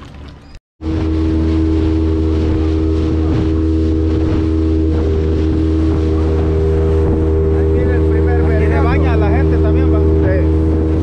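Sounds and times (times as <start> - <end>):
outboard motor running: 0.1 - 11.0.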